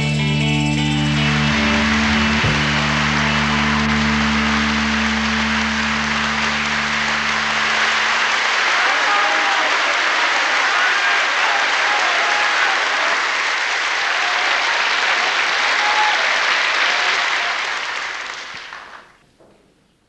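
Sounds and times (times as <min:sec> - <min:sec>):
audience applauding: 0:00.7 - 0:19.2.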